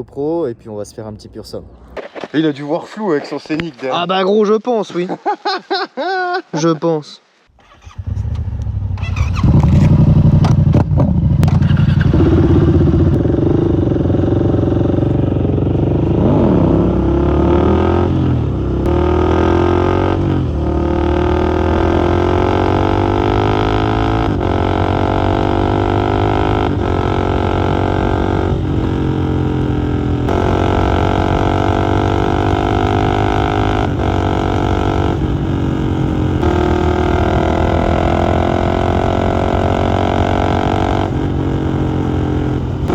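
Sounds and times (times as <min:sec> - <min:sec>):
motorcycle engine accelerating: 0:07.6 - 0:42.9.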